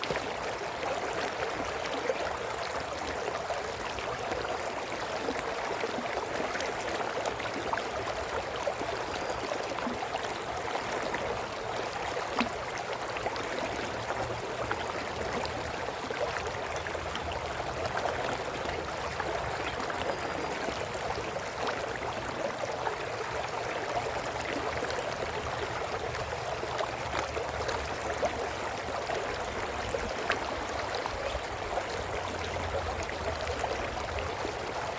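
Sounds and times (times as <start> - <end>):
brook water flowing over rocks: 0.0 - 34.9.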